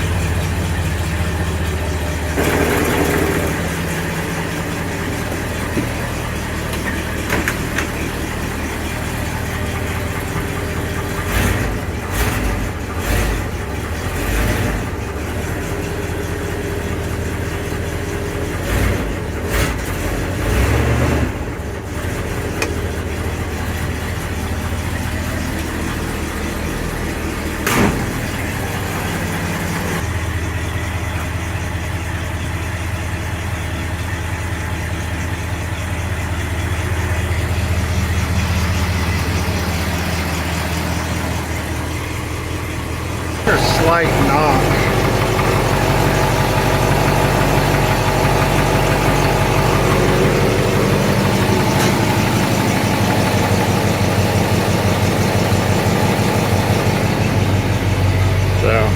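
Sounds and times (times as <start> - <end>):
truck engine idling: 0.0 - 58.9.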